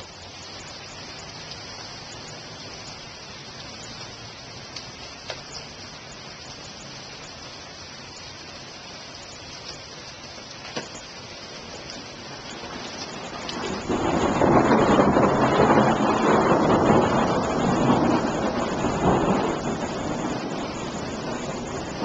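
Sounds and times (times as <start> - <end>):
rain downpour: 0.0 - 22.0.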